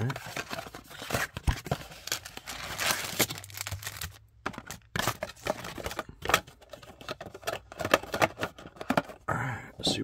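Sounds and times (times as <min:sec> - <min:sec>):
cardboard rustling and scraping: 0:00.0 - 0:09.2.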